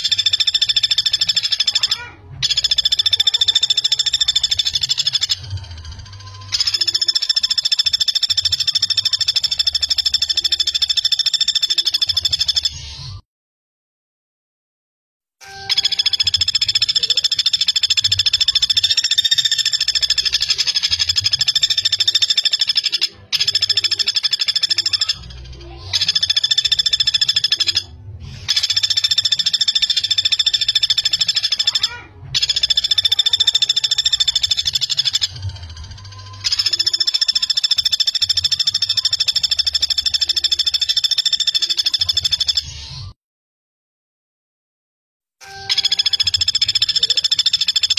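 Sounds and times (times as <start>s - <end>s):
woodpecker rattling trills: 0.0s - 12.8s, 15.6s - 42.7s, 45.6s - 47.9s.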